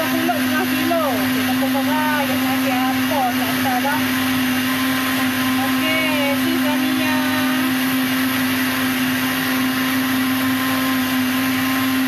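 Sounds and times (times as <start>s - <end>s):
blender running: 0.0s - 12.0s.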